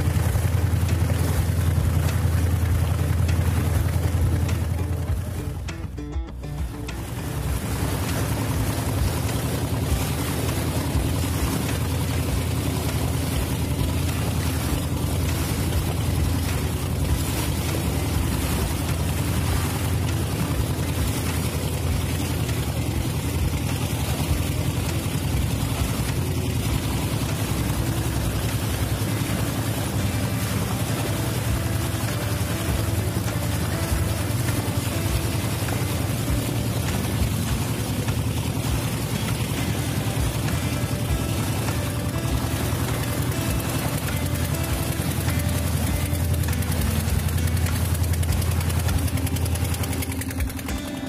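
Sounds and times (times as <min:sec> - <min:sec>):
motorboat engine running: 0:00.0 - 0:51.0
water rushing along bow: 0:00.0 - 0:51.0.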